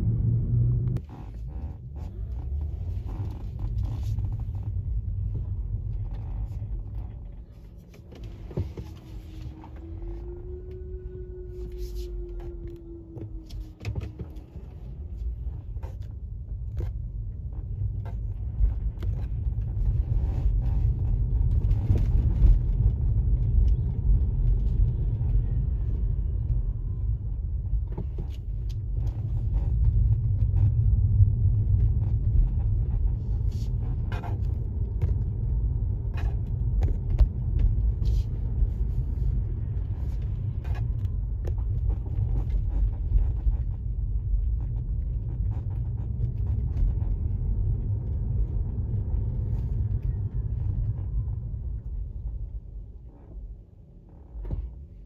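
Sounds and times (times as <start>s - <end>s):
car driving rumble from inside: 0.0s - 55.0s.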